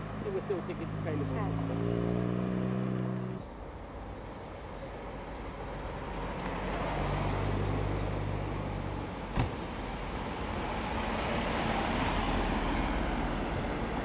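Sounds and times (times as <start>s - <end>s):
car engine and tyre noise: 0.0s - 14.0s
car engine hum: 0.0s - 14.0s.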